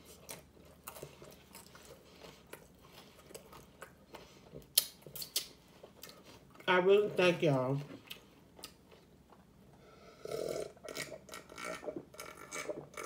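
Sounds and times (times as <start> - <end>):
person chewing food: 0.0 - 6.7, 7.8 - 13.0.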